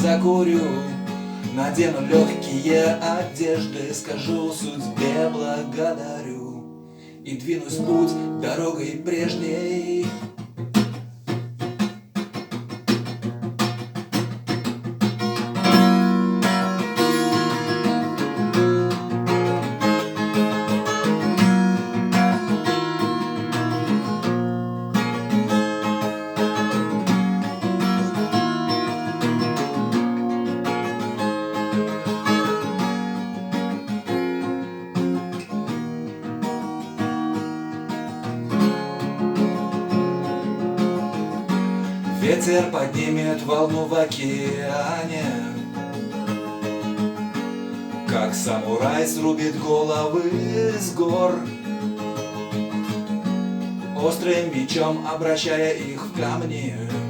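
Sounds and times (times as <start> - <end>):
acoustic guitar strummed and picked: 0.0 - 57.0.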